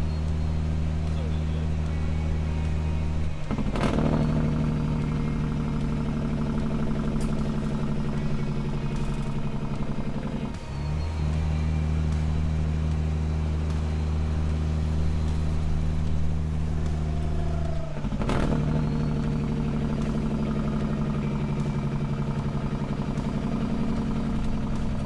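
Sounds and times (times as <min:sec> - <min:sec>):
diesel truck engine droning: 0:00.0 - 0:25.0.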